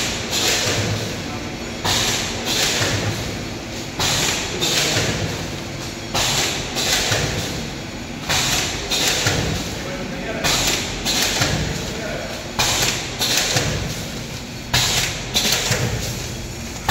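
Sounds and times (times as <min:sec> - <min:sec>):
packaging machine hissing bursts: 0:00.0 - 0:16.9.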